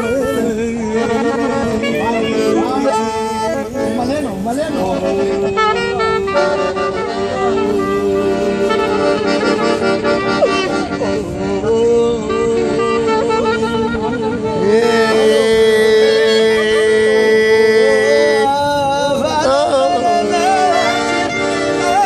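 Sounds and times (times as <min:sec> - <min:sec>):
clarinet melody: 0:00.0 - 0:18.6, 0:19.3 - 0:22.0
accordion held notes: 0:00.0 - 0:22.0.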